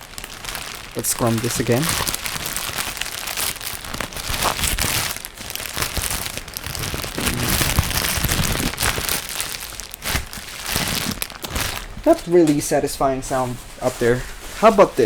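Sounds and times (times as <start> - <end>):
packaging crumpling: 0.0 - 15.0.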